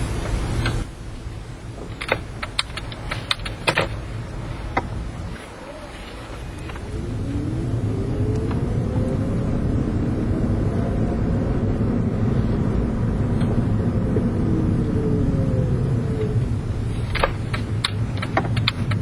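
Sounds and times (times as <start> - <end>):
drivetrain whine: 0.0 - 19.0
tyre and road rumble: 0.0 - 19.0.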